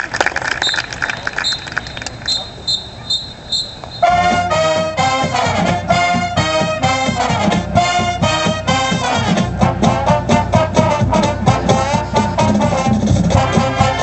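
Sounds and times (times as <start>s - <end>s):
marching band brass playing: 2.7s - 14.0s.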